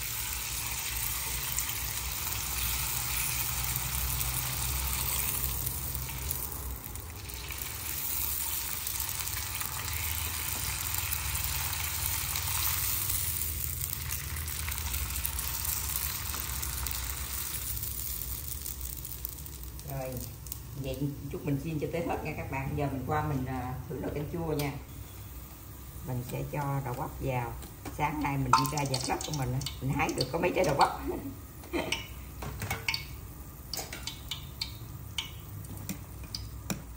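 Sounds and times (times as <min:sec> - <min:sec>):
hot oil sizzling: 0:00.0 - 0:36.9.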